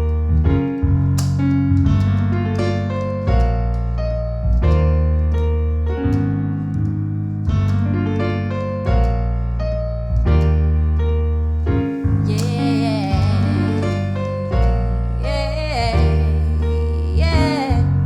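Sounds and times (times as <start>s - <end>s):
deep bass: 0.0s - 18.0s
piano chords: 0.0s - 18.0s.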